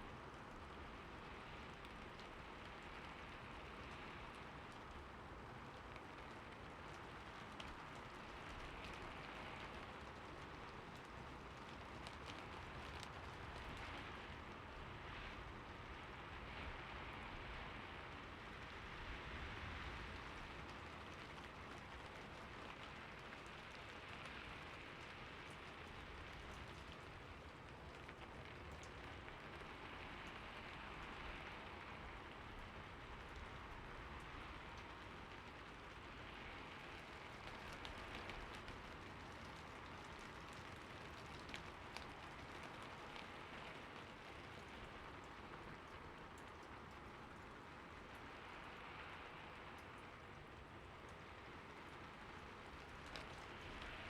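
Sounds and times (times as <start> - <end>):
soft rain falling: 0.0 - 54.0.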